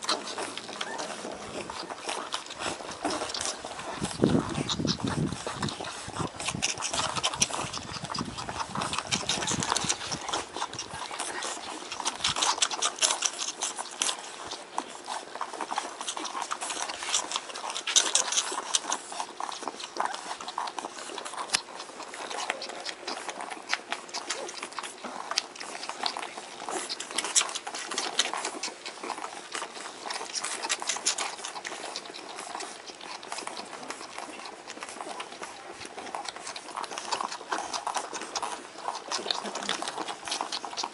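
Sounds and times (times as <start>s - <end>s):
puppies suckling: 0.0s - 40.9s.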